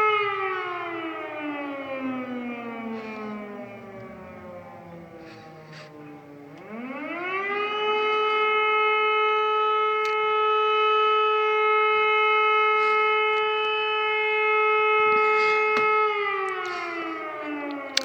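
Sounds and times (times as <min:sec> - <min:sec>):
air-raid siren: 0:00.0 - 0:18.0.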